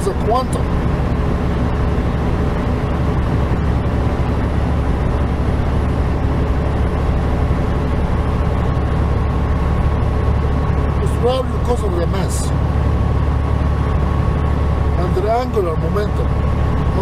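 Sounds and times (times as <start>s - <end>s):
faint steady whine: 0.0s - 17.0s
road noise: 0.0s - 17.0s
truck engine drone: 0.0s - 17.0s.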